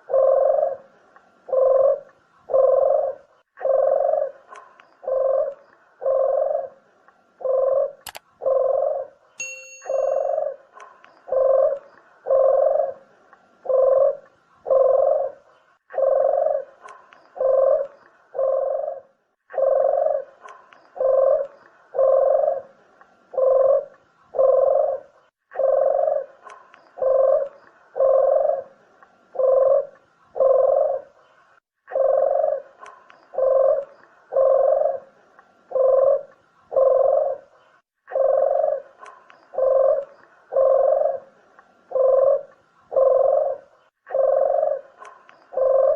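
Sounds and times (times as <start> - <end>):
dove cooing: 0.0 - 9.2, 9.9 - 31.2, 31.9 - 45.9.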